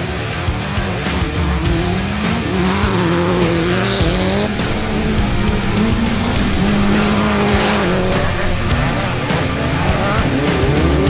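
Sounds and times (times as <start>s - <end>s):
buggy engine revving: 0.0s - 11.0s
rock music: 0.0s - 11.0s.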